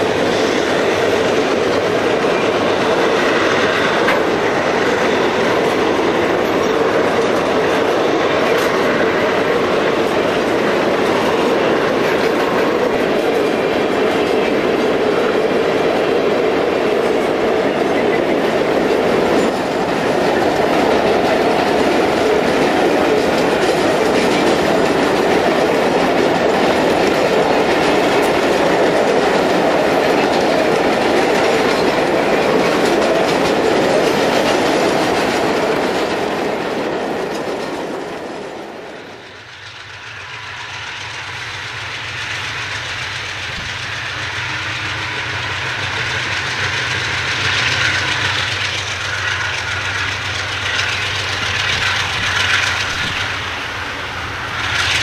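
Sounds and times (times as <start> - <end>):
diesel locomotive engines droning: 0.0 - 55.0
train wheels clacking over rail joints: 0.0 - 55.0.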